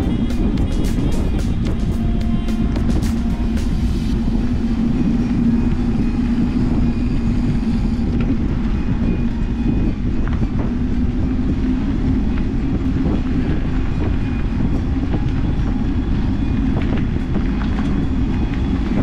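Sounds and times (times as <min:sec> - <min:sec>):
bike tyres rumbling on dirt: 0:00.0 - 0:19.0
wind on microphone: 0:00.0 - 0:19.0.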